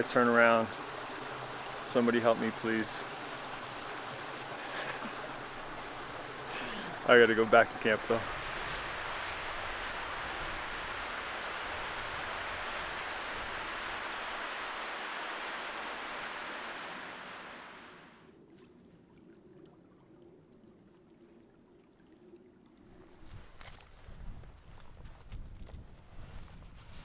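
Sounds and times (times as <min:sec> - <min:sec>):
shallow water rushing: 0:00.0 - 0:23.5.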